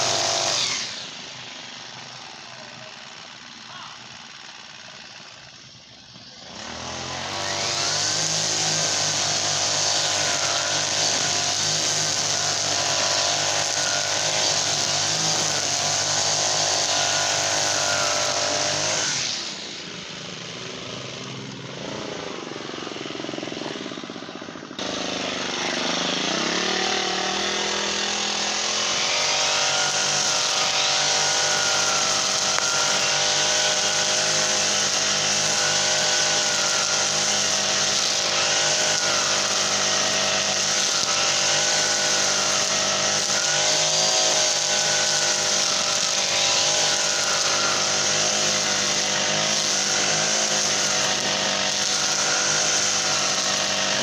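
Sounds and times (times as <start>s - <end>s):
brush cutter engine revving: 0.0s - 54.0s.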